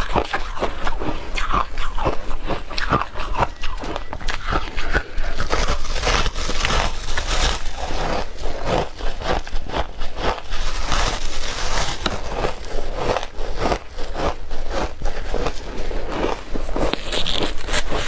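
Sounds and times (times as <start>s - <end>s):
chewing crunchy ice: 0.0s - 18.0s.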